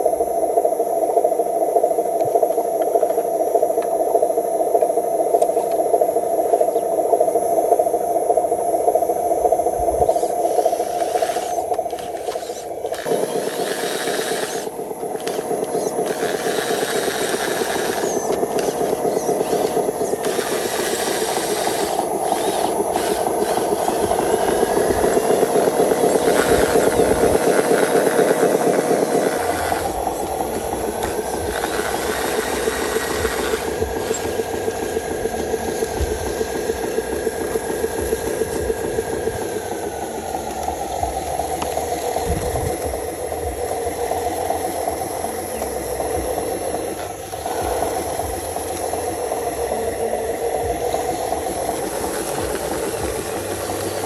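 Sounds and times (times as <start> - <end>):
model truck diesel engine idling: 9.1 - 54.0.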